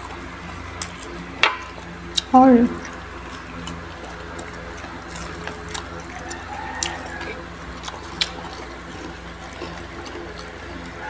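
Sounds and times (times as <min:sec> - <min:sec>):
crunchy chewing: 0:00.0 - 0:11.0
low hum: 0:00.0 - 0:11.0.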